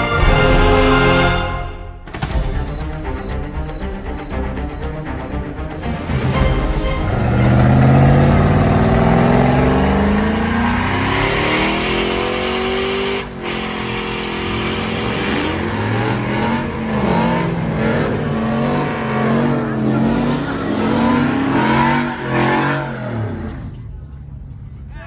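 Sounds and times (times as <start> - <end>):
truck engine revving: 2.1 - 24.1.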